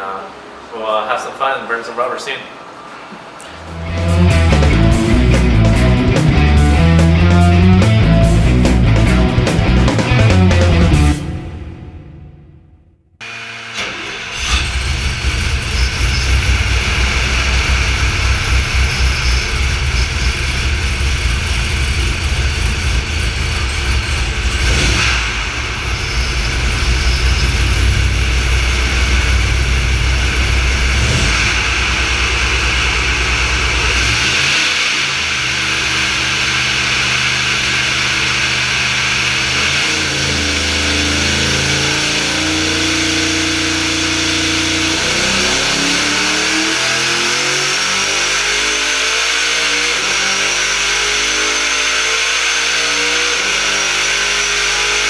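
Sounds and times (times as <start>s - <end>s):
engine running on a dyno: 3.6s - 55.0s.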